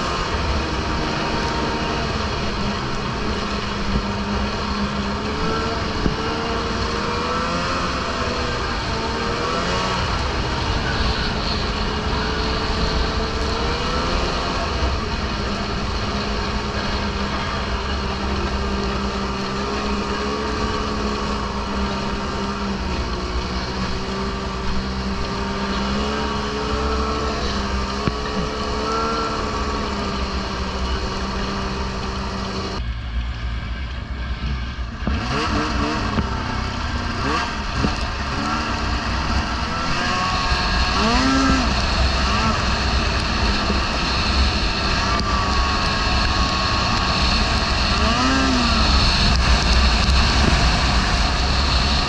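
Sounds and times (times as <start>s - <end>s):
low rumble: 0.0s - 52.0s
snowmobile engine running: 0.0s - 52.0s.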